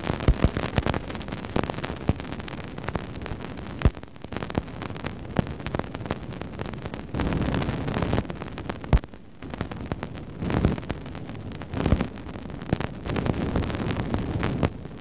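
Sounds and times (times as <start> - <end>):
sharp pops and crackles: 0.0 - 15.0
steady hiss: 0.0 - 15.0.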